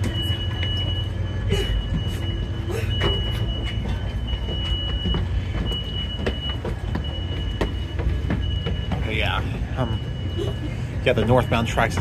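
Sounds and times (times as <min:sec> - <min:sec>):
idling train rumble: 0:00.0 - 0:12.0.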